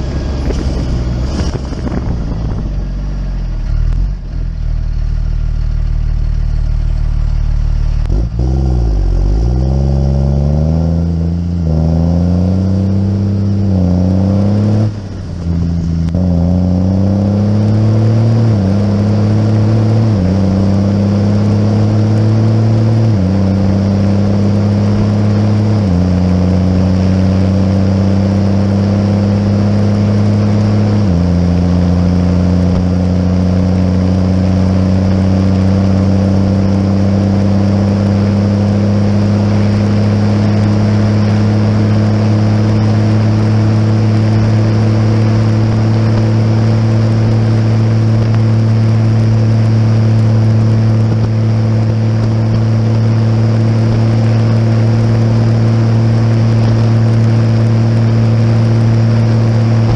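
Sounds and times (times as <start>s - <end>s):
diesel engine accelerating through gears: 0.0s - 59.9s.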